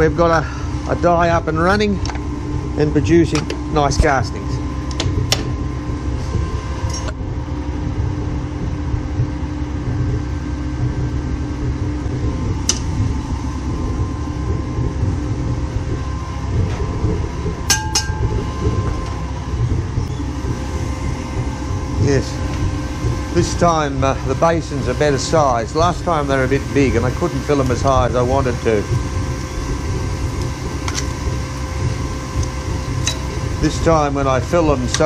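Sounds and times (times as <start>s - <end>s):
furnace burner rumbling: 0.0s - 35.0s.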